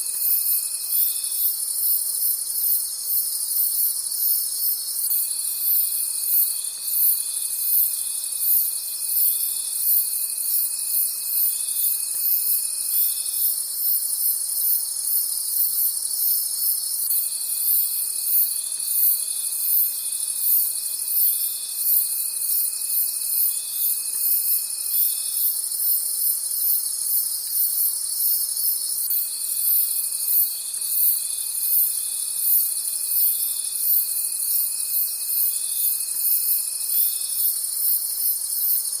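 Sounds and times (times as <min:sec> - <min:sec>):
crickets chirping: 0:00.0 - 0:39.0
low continuous insect trill: 0:00.0 - 0:39.0.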